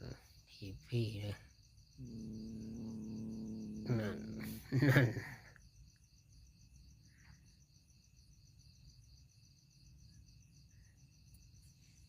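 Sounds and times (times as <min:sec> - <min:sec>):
faint crickets chirping: 0:00.0 - 0:12.0.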